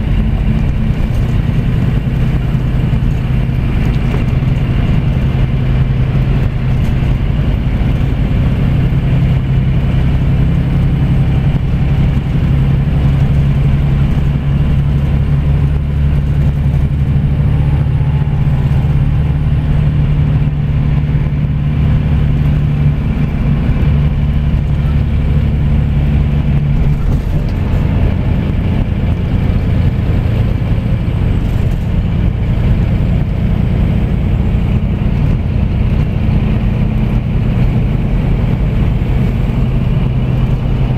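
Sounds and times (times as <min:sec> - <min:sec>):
coach engine drone: 0:00.0 - 0:40.9
road noise: 0:00.0 - 0:40.9.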